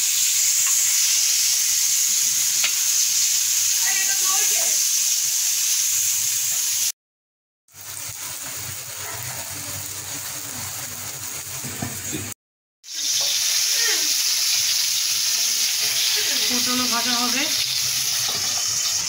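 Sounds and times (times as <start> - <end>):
vegetables sizzling in hot oil: 0.0 - 7.0, 7.7 - 19.0.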